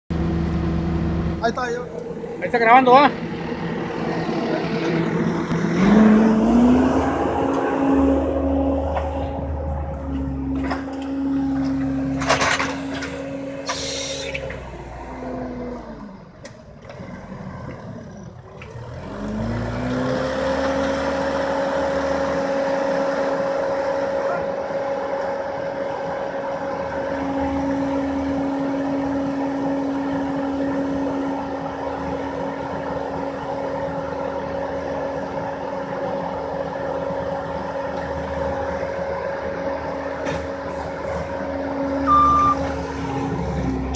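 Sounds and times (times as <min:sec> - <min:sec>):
diesel engine revving high: 0:00.1 - 0:43.9.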